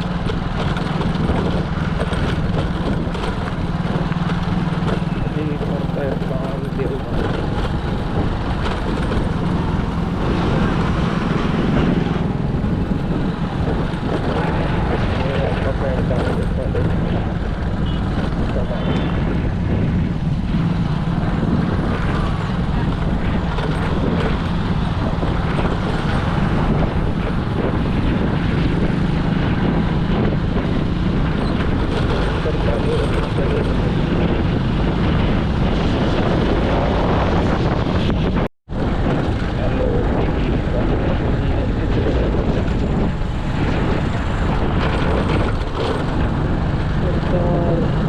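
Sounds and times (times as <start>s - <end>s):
road noise: 0.0s - 48.0s
vehicle engine hum: 0.0s - 48.0s
wind buffeting microphone: 0.0s - 48.0s.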